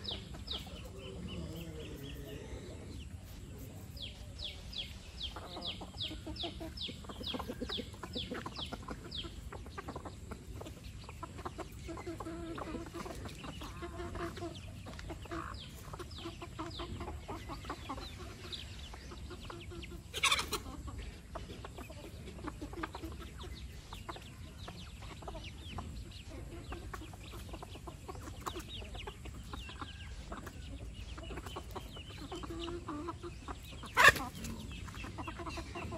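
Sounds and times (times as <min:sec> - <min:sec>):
chicks peeping: 0:00.0 - 0:35.9
hens clucking: 0:00.0 - 0:35.9.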